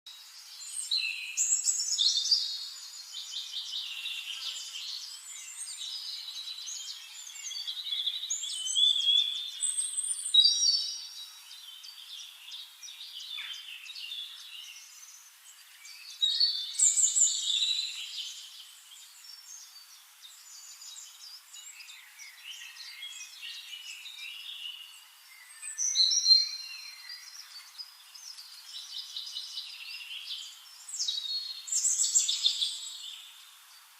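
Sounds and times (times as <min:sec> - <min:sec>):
songbirds singing and chirping: 0:00.1 - 0:33.9.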